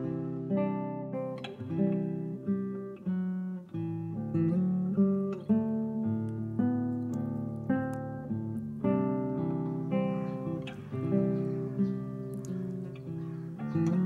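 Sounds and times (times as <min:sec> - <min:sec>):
classical guitar playing: 0:00.0 - 0:14.0.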